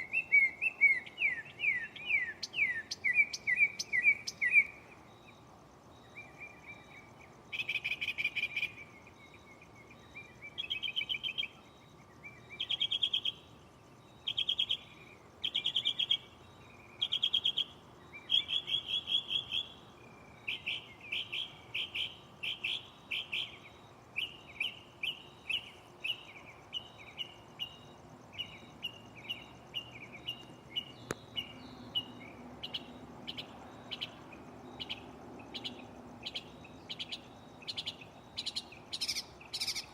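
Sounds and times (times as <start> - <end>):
mockingbird singing: 0.0 - 5.4, 6.0 - 13.5, 14.1 - 19.8, 20.4 - 39.9.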